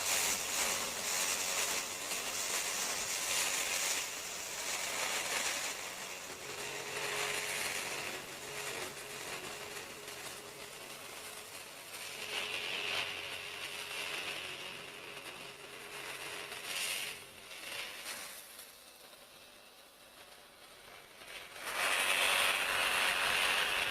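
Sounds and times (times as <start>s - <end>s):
reciprocating saw cutting wood: 0.0s - 18.8s, 21.3s - 23.9s.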